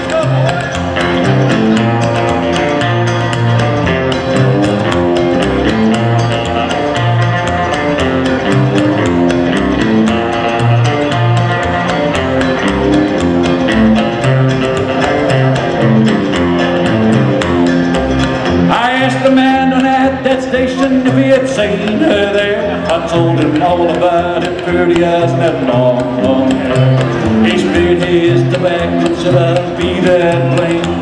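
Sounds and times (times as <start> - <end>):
electric guitar: 0.0 - 31.0
strummed acoustic guitar: 0.0 - 31.0
upright double bass: 0.0 - 31.0.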